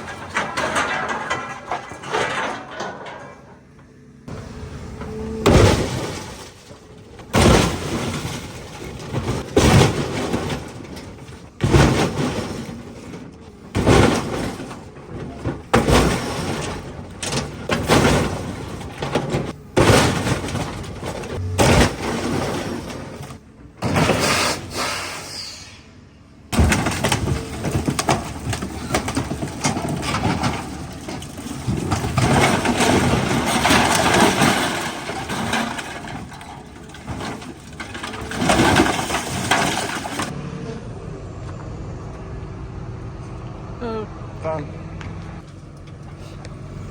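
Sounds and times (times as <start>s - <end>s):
scrap metal crunching and tearing: 0.0s - 3.6s, 4.3s - 25.2s, 26.5s - 40.4s
metal grinding and scraping: 0.0s - 25.0s, 26.5s - 40.4s.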